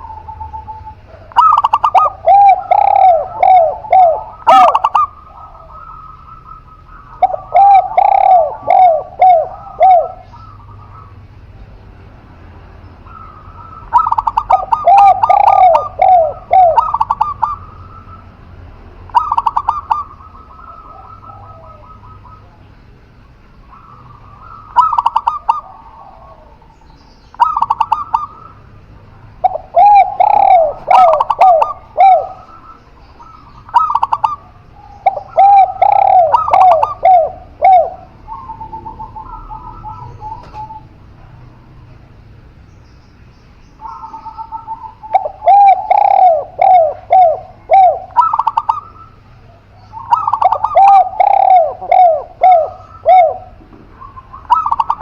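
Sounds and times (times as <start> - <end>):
doves cooing: 0.0 - 42.7, 43.4 - 55.0.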